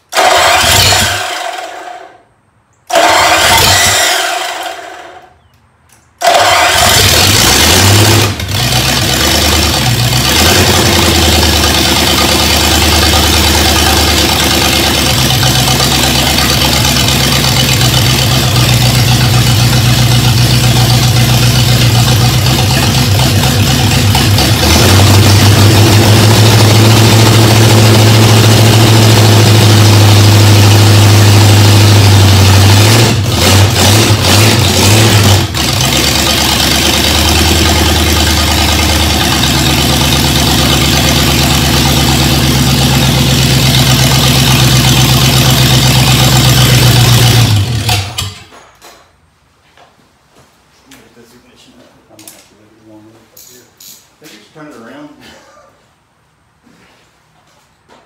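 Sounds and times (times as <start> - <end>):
car engine starting and running: 0.0 - 5.4, 6.0 - 48.6.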